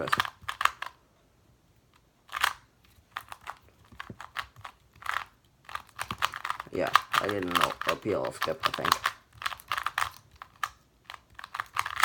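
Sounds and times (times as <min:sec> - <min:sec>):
plastic puzzle cube clicking: 0:00.0 - 0:01.0, 0:01.9 - 0:12.0.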